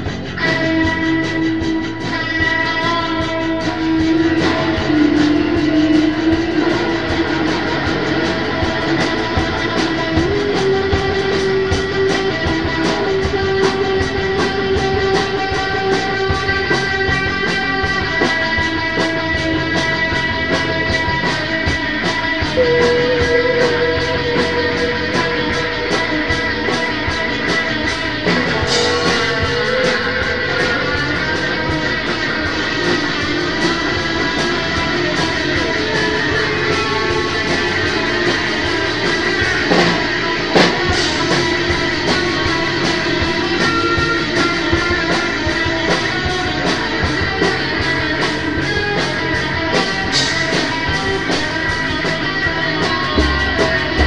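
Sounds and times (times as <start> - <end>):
improvised instrumental music: 0.0 - 54.0.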